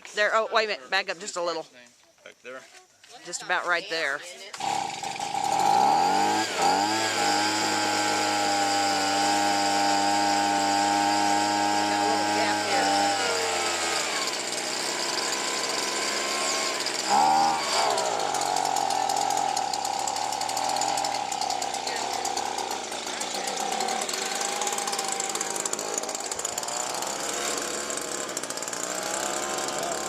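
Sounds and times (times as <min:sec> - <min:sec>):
small gasoline engine running: 0:04.6 - 0:30.0.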